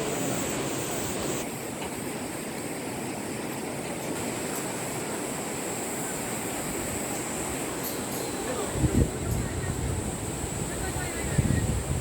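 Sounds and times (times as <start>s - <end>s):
high hiss: 0.0s - 12.0s
river rushing: 0.0s - 12.0s.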